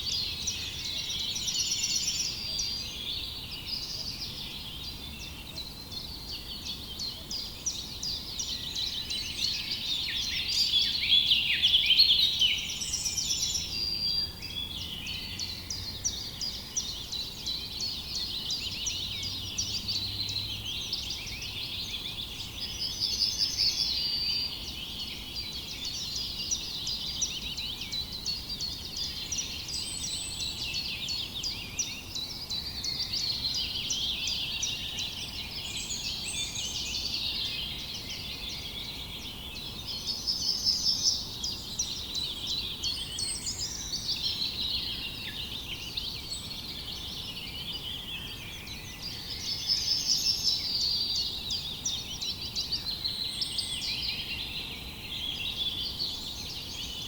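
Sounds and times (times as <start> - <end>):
chorus of songbirds chirping: 0.0 - 57.0.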